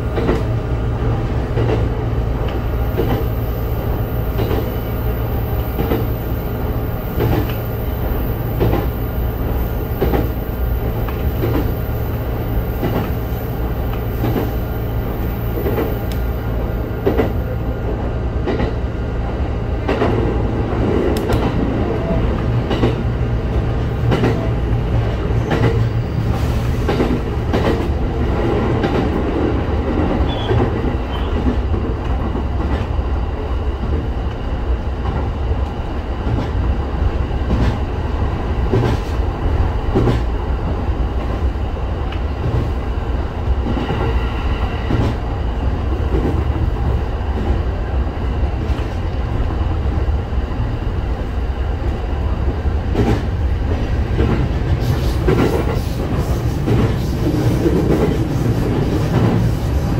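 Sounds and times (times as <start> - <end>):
train wheels and motors rumbling: 0.0 - 59.9.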